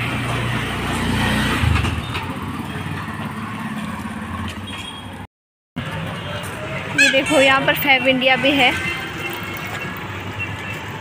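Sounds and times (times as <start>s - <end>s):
rough street noise: 0.0s - 11.0s.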